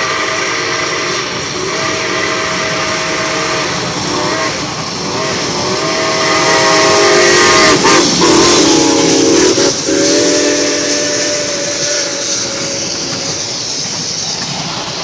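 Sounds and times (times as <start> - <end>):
steam locomotive chime whistle: 0.0 - 14.0
steam exhaust and hiss: 0.0 - 15.0.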